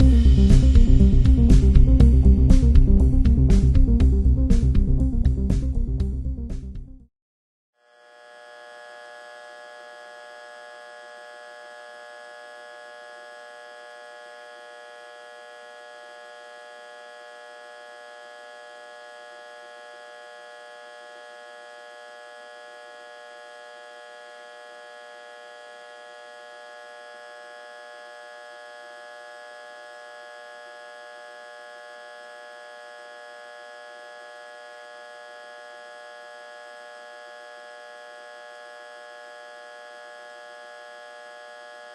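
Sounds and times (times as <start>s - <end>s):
electric transformer humming: 0.0s - 6.8s, 8.0s - 41.9s.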